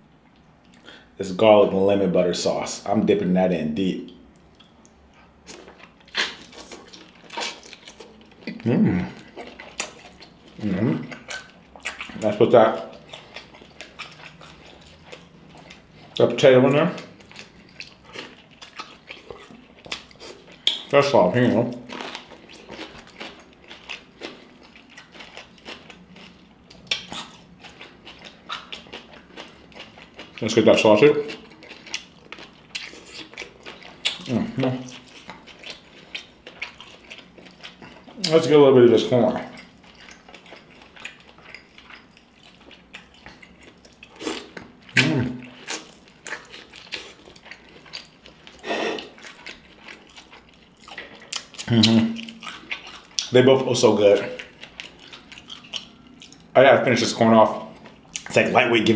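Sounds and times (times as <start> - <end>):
crunchy chewing: 4.3 - 58.9.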